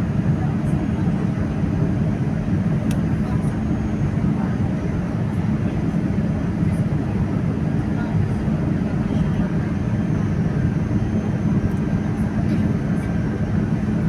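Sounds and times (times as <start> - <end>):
jet cabin engine and airflow noise: 0.0 - 14.0.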